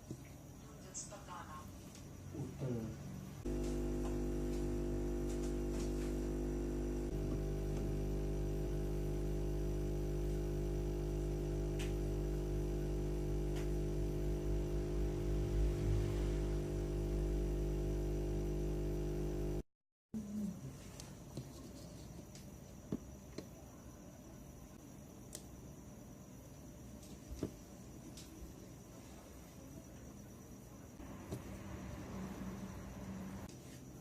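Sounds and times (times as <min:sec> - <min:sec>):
electrical mains hum: 0:00.0 - 0:19.6, 0:20.2 - 0:34.0.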